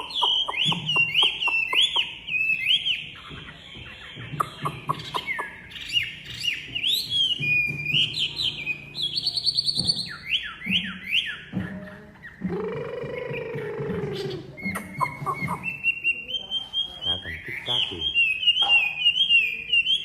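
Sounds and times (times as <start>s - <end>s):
bird trill: 0.0s - 20.0s
songbird singing whistled notes: 0.0s - 20.0s.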